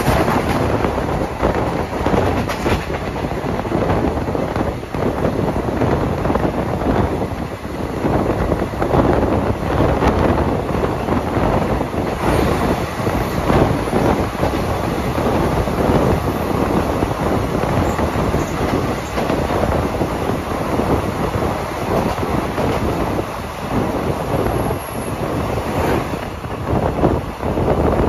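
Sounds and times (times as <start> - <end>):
train wheels rumbling on rails: 0.0 - 28.0
wind buffeting microphone: 0.0 - 28.0.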